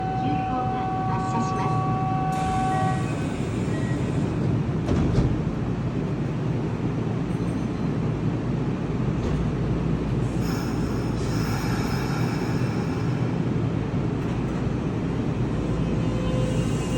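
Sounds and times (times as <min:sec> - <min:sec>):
electric train rumbling: 0:00.0 - 0:16.9.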